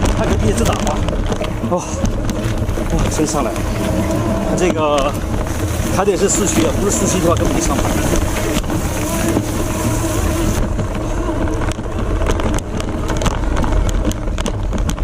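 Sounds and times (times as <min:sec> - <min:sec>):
trike rumbling over rough ground: 0:00.0 - 0:15.0
wind buffeting microphone: 0:00.0 - 0:15.0.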